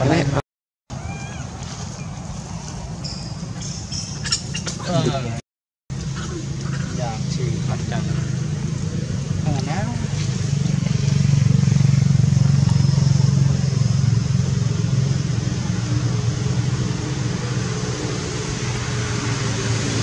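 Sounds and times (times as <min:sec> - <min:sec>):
engine humming steadily: 0:01.4 - 0:20.0.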